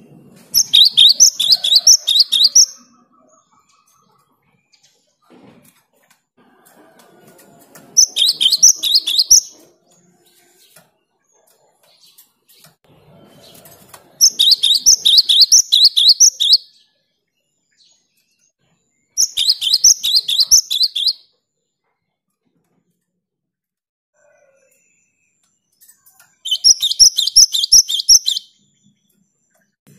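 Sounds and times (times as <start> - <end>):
bird song of high notes: 0.0 - 5.3, 8.0 - 21.8, 24.4 - 29.8.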